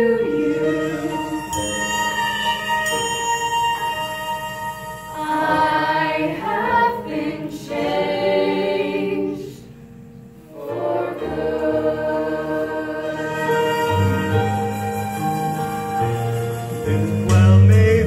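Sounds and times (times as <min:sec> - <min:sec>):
choir singing in harmony: 0:00.0 - 0:02.9, 0:05.0 - 0:18.0.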